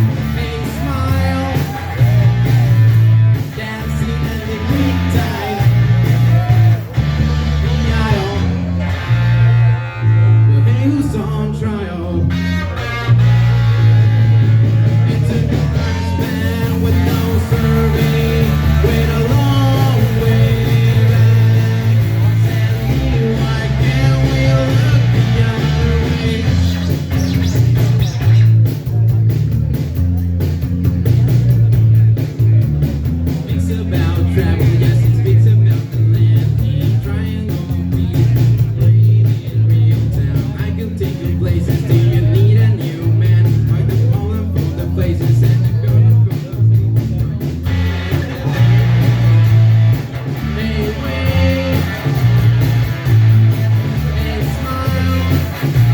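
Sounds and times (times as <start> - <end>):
bass and drums: 0.0 - 55.9
electric guitar: 0.0 - 55.9.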